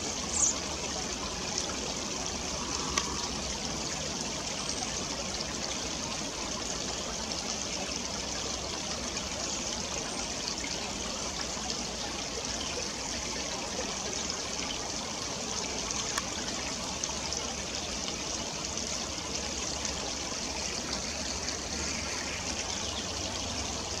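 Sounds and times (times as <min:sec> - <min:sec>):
stream trickling over rocks: 0:00.0 - 0:24.0.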